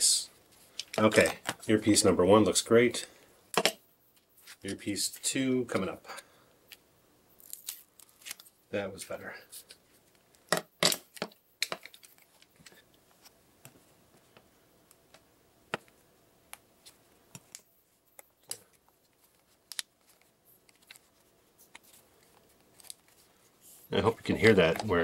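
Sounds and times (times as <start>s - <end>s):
faint handling noise: 0.4s - 6.8s, 8.0s - 25.0s.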